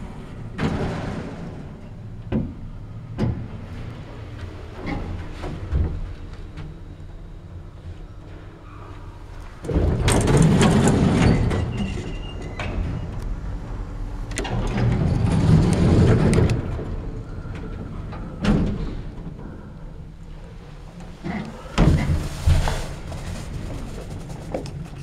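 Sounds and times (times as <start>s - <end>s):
elevator door and machinery rumbling: 0.0s - 25.0s.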